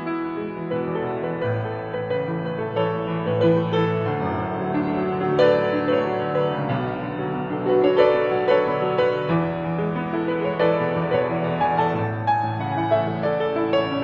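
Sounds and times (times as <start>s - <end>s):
slow soft piano music: 0.0s - 14.0s.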